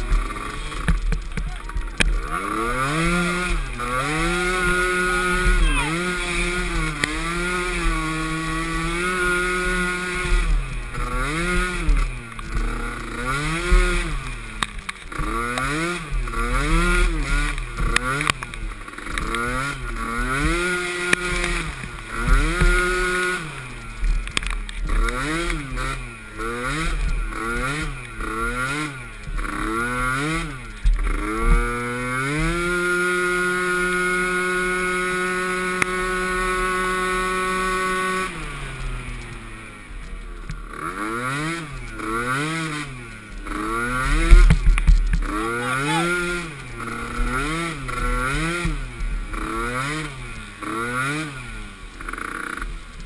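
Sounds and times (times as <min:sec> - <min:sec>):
small atv engine revving: 0:00.0 - 0:53.0.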